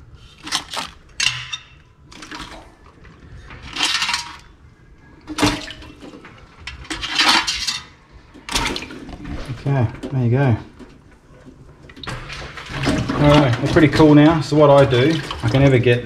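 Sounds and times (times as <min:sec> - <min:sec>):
water splashing: 0:00.0 - 0:10.9, 0:11.8 - 0:16.0.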